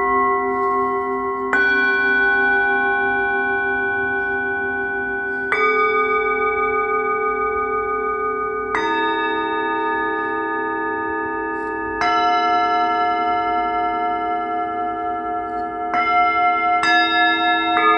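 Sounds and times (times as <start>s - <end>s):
singing bowls struck: 0.0s - 17.9s.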